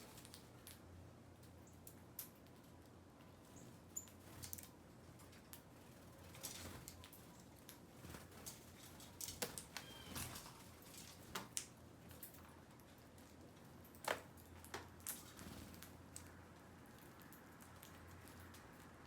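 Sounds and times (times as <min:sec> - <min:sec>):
birds pecking at food: 0:00.0 - 0:19.0.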